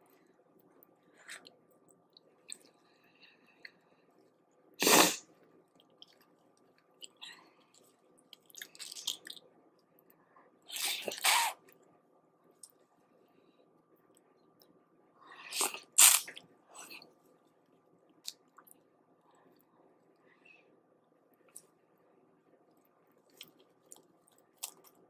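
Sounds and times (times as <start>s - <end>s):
soft chewing: 0.0s - 25.0s.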